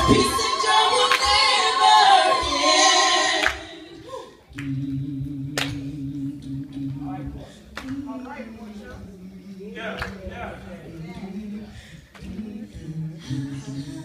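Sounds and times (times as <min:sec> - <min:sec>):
group singing a cappella: 0:00.0 - 0:08.3, 0:10.8 - 0:14.0.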